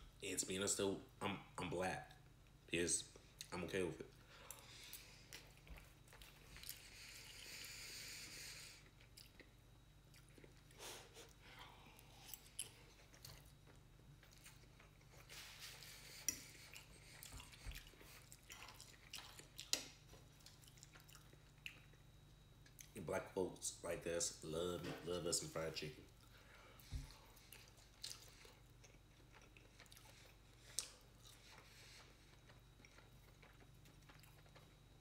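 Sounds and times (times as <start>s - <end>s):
faint chewing of food: 3.1s - 23.0s, 26.0s - 35.0s.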